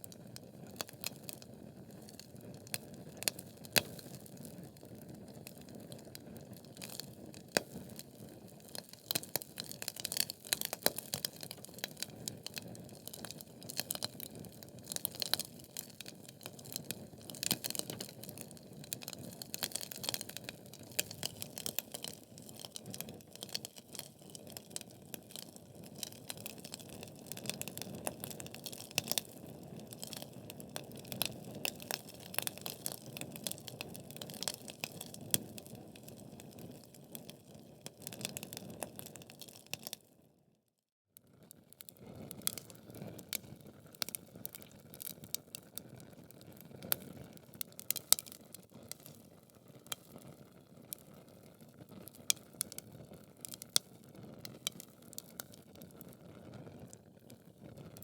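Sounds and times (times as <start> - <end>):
wood fire crackling: 0.1 - 40.0, 42.3 - 56.3.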